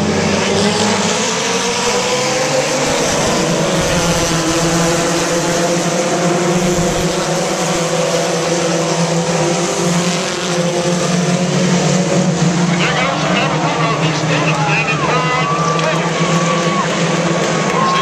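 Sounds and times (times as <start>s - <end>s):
many race car engines droning: 0.0s - 18.0s.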